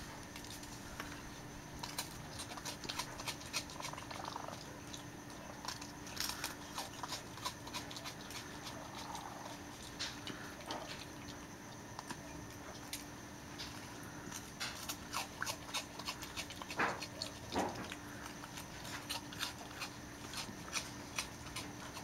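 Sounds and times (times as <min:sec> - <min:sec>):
raccoons crunching crackers: 0:00.0 - 0:22.0.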